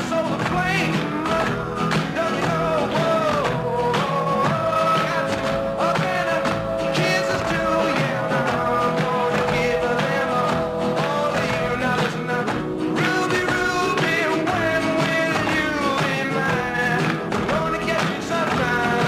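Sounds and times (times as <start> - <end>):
rock and roll song with singer: 0.0 - 19.0.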